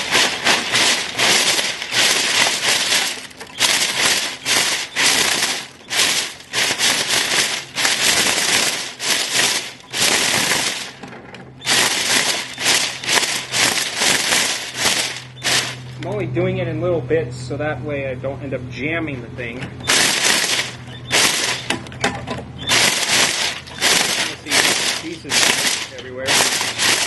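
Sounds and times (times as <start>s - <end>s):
plastic crackling and rattling in blade: 0.0s - 16.2s, 19.8s - 27.0s
lawnmower running: 0.0s - 16.8s, 18.8s - 27.0s.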